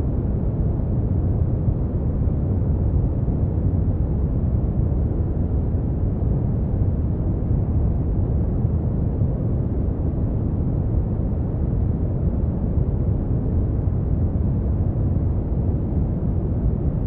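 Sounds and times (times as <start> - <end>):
deep rumbling brown noise: 0.0 - 17.0.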